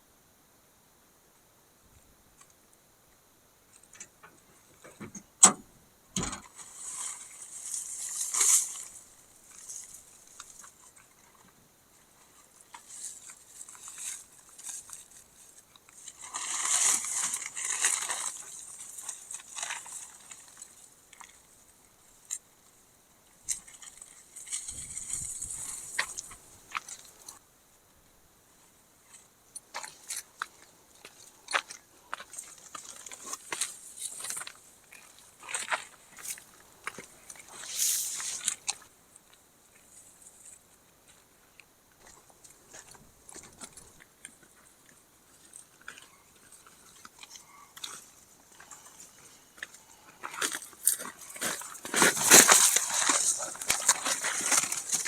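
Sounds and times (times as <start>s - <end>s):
rustling and crunching: 3.7s - 27.5s, 28.6s - 55.0s.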